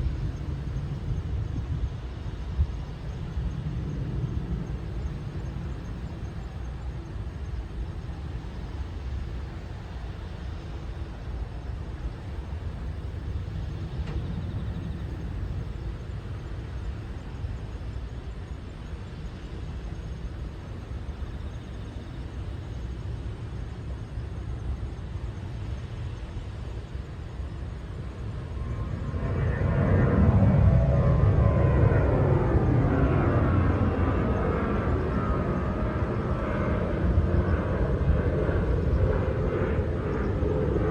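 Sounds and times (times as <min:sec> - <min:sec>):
jet engines roaring on takeoff: 0:00.0 - 0:40.9
low outdoor rumble: 0:00.0 - 0:40.9.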